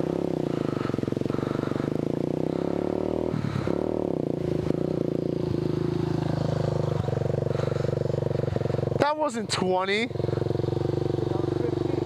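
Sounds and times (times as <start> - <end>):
dirt bike riding up: 0.0 - 12.0
motorcycle engine idling: 0.0 - 12.0.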